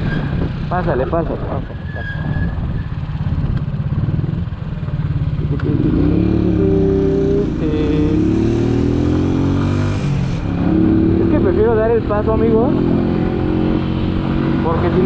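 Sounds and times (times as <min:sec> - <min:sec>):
motorcycle engine running: 0:02.6 - 0:15.0.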